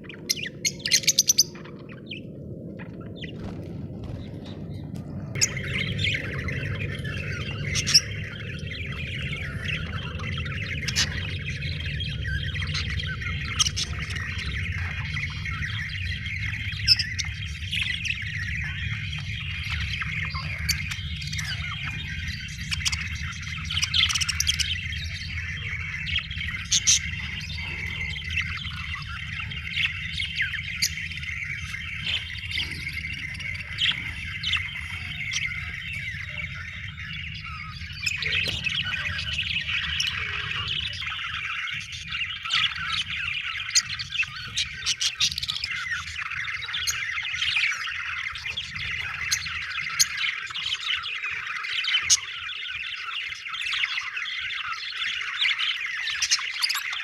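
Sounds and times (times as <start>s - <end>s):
steady low hum: 0.0s - 56.4s
budgerigars chattering and warbling: 0.0s - 57.0s
sharp bird chirps: 5.3s - 57.0s.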